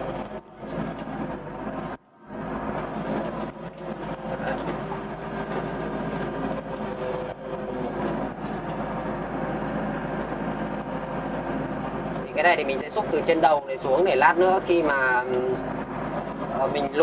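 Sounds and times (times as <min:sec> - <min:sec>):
excavator diesel engine running: 0:00.0 - 0:17.0
hydraulics working: 0:00.0 - 0:17.0.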